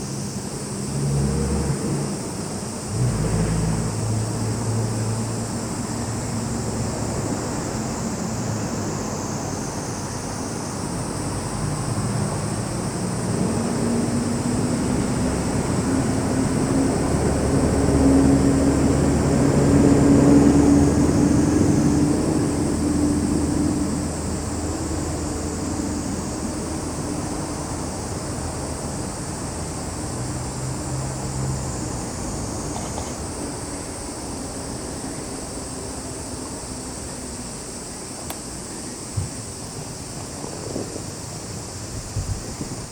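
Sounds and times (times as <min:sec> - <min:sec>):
insects droning: 0:00.0 - 0:42.9
vehicle engine humming: 0:00.0 - 0:42.9.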